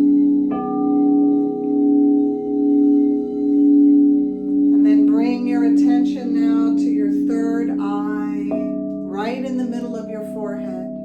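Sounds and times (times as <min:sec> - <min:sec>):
singing bowls ringing: 0:00.0 - 0:10.0.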